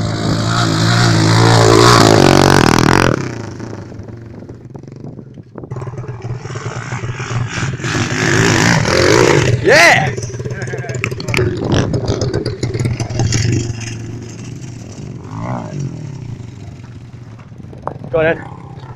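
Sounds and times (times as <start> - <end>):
pit bike engine revving: 0.0 - 4.4, 5.7 - 18.9.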